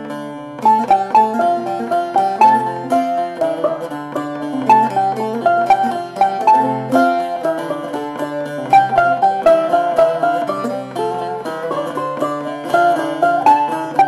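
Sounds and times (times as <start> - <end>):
plucked string melody: 0.0 - 14.0
low string drone: 0.6 - 14.0.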